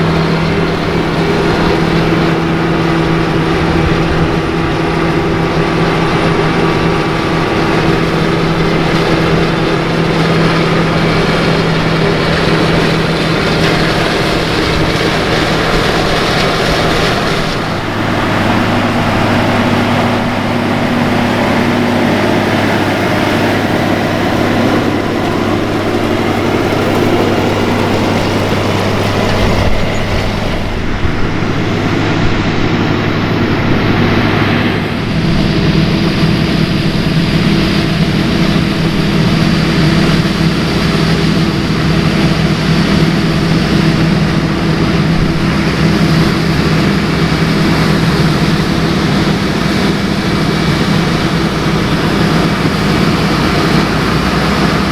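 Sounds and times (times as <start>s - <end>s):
diesel machinery engine drone: 0.0s - 54.9s.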